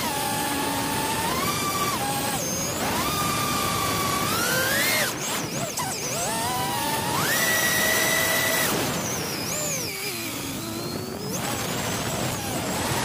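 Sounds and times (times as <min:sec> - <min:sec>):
quadcopter motor whine: 0:00.0 - 0:13.0.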